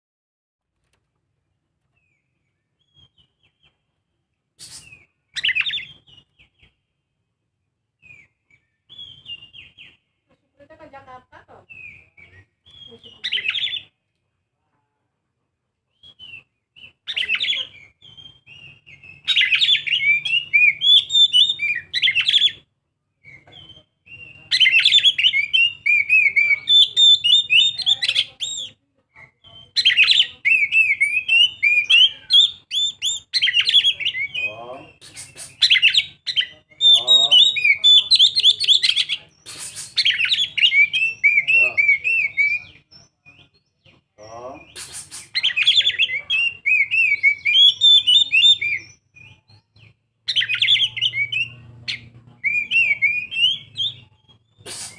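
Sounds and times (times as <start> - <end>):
bird singing chirps and whistles: 2.0 - 3.8, 4.6 - 6.8, 8.0 - 10.0, 11.7 - 13.9, 15.9 - 22.6, 23.2 - 43.8, 44.6 - 54.9.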